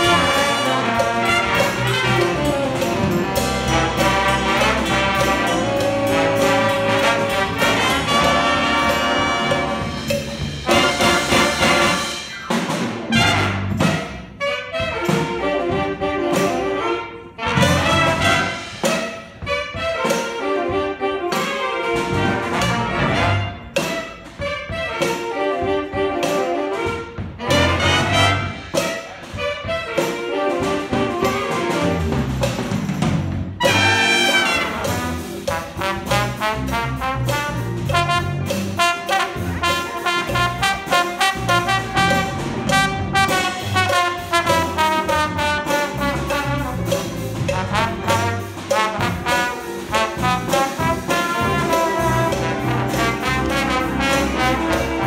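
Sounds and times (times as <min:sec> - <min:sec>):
jazz big band playing: 0:00.0 - 0:55.0.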